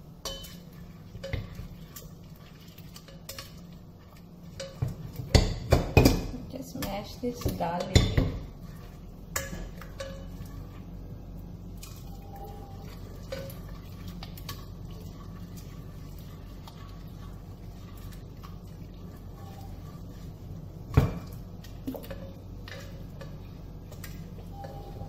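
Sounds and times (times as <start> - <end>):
steady low hum: 0.0 - 25.0
utensil scraping and tapping pot: 0.2 - 10.9, 11.8 - 25.0.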